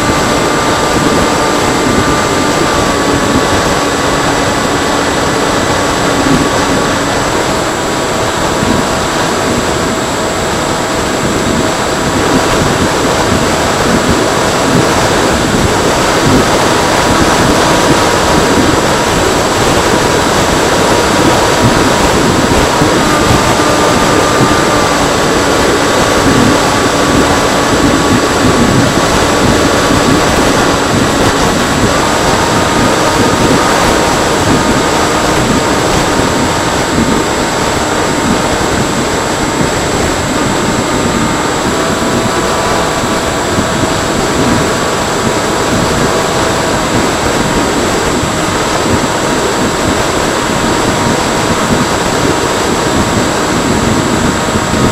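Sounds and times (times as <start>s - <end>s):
electric motor whining: 0.0s - 54.9s
rush of air: 0.0s - 54.9s.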